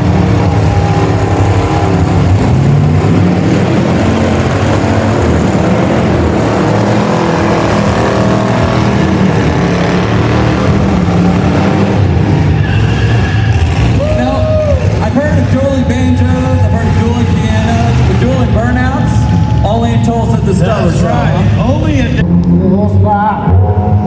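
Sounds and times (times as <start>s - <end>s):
car engines revving in burnout: 0.0s - 24.0s.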